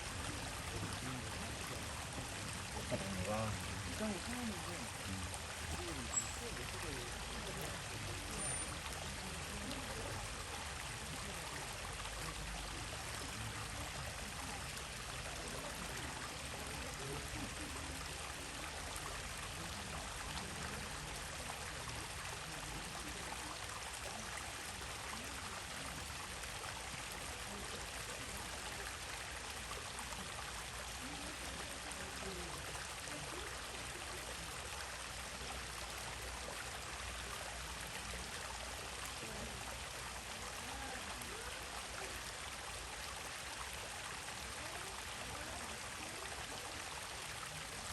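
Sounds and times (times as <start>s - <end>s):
stream running over rocks: 0.0s - 47.9s.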